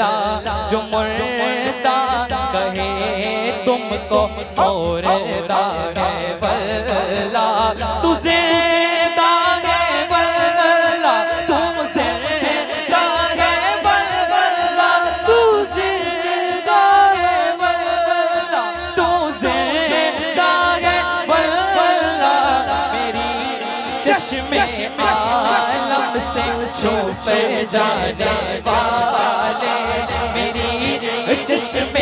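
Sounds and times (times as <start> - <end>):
men singing into microphones: 0.0 - 32.0.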